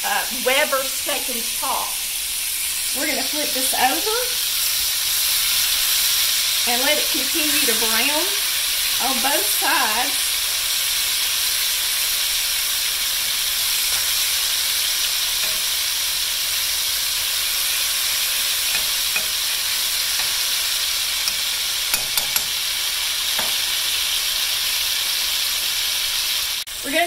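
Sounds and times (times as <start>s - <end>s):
steaks sizzling in oil: 0.0s - 27.0s.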